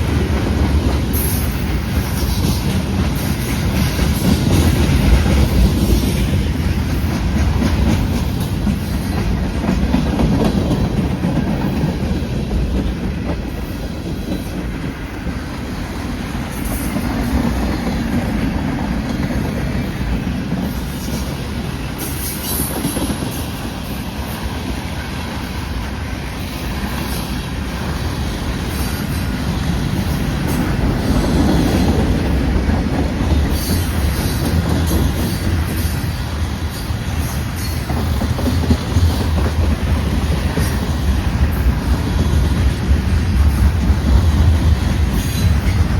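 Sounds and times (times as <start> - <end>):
clickety-clack over rail joints: 0.0 - 45.9
freight cars rolling on rails: 0.0 - 45.9.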